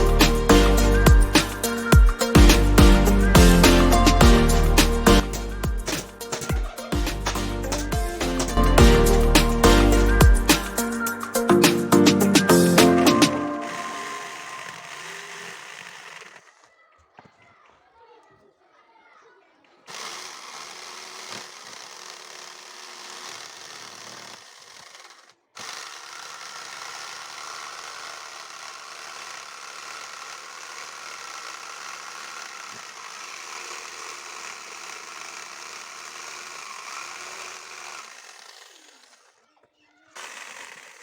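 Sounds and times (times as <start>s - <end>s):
power tool running: 0.0s - 16.7s, 19.8s - 41.0s.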